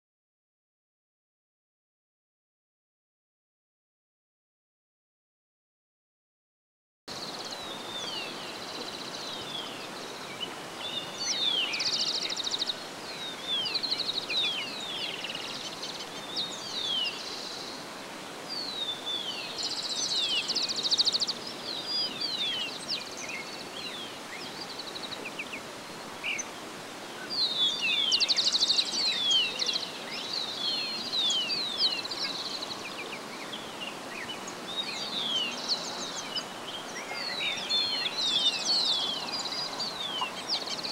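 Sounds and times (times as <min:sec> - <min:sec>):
background hiss: 0:07.1 - 0:40.9
birds chirping: 0:07.1 - 0:40.9.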